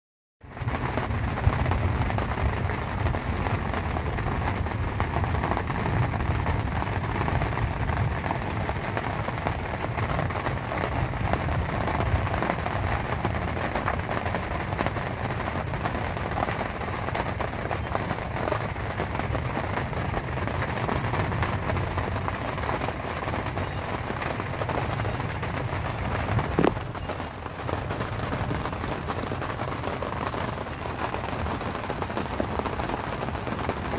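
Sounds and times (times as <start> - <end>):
heavy rain on tent canvas: 0.4 - 33.9.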